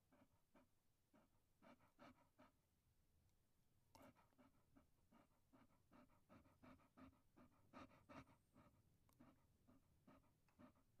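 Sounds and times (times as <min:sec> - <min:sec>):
faint dog panting: 0:00.0 - 0:02.7, 0:03.9 - 0:11.0.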